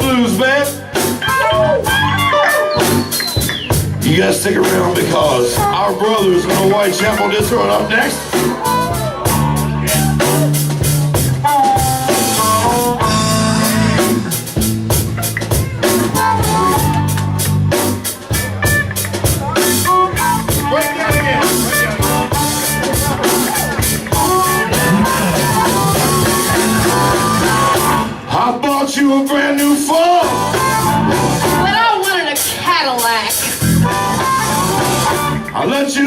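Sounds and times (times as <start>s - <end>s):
electric guitar: 0.0s - 28.5s, 30.2s - 32.6s, 33.3s - 36.0s
bass guitar: 0.0s - 36.0s
drum kit steady beat: 0.0s - 36.0s.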